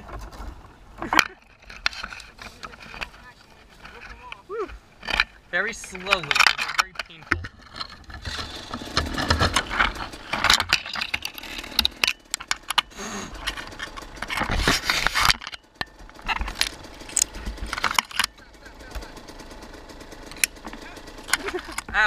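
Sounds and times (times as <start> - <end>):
branches scraping and snapping: 0.0 - 22.0.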